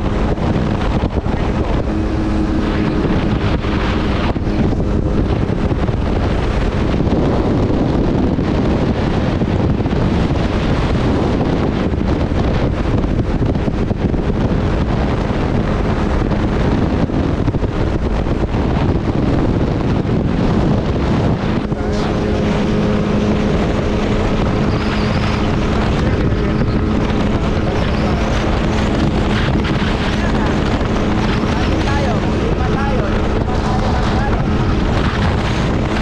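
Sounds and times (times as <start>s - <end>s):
jet ski engine running: 0.0s - 36.0s
wind buffeting microphone: 0.0s - 36.0s.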